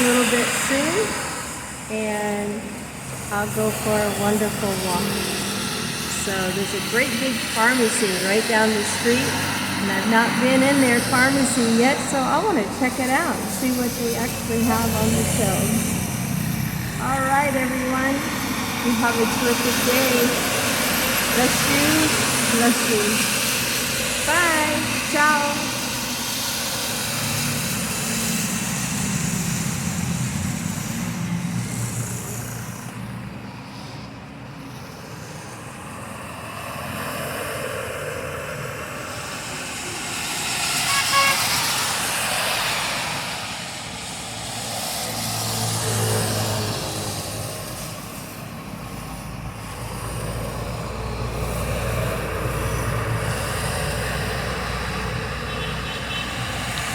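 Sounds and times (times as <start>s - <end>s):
rain hiss: 0.0s - 37.8s, 38.5s - 56.9s
motorbike and car engines: 0.0s - 56.9s
vehicles passing on wet street: 0.0s - 56.9s.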